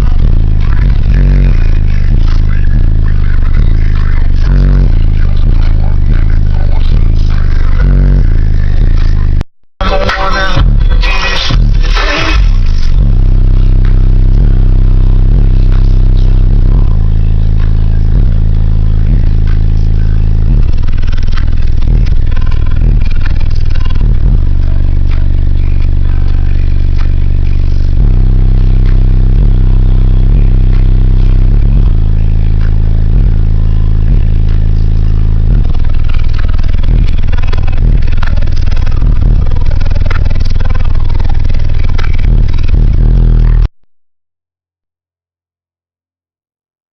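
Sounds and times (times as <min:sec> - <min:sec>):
bass-heavy music from subwoofers: 0:00.0 - 0:43.7.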